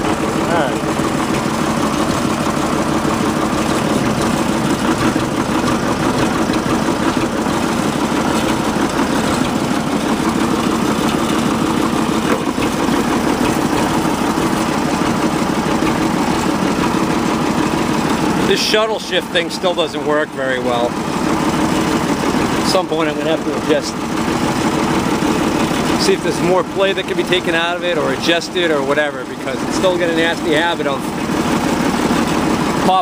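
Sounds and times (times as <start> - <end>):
diesel tractor engine idling: 0.0 - 33.0.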